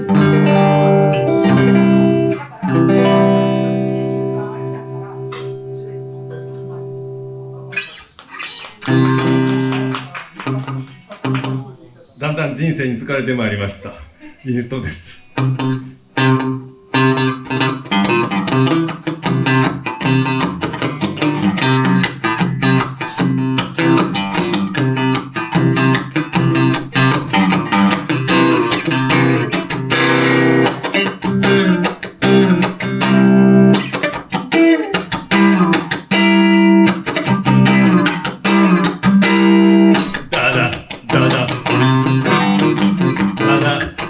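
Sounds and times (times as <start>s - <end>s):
electric guitar instrumental: 0.0s - 12.0s, 15.1s - 44.0s.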